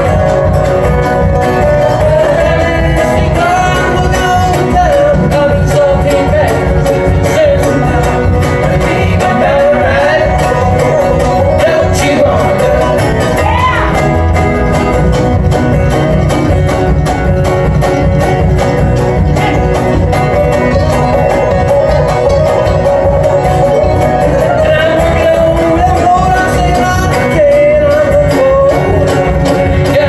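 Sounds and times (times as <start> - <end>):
banjo rolls: 0.0 - 30.0
mandolin: 0.0 - 30.0
strummed acoustic guitars: 0.0 - 30.0
upright bass: 0.0 - 30.0.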